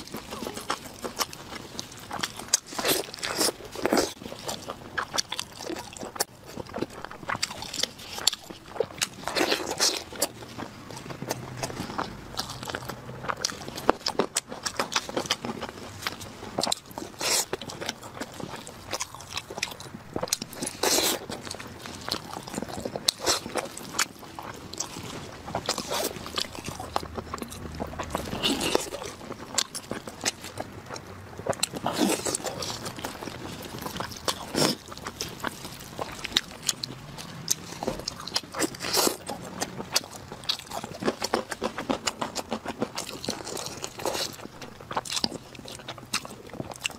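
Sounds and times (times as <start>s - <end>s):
person chewing crunchy meat: 0.0s - 46.9s.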